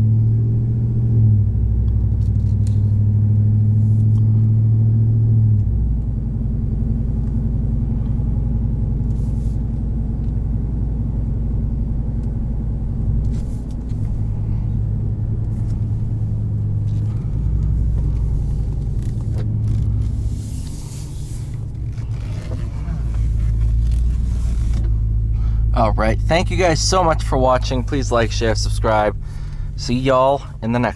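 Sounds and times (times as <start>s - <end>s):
truck engine and exhaust droning: 0.0s - 30.9s.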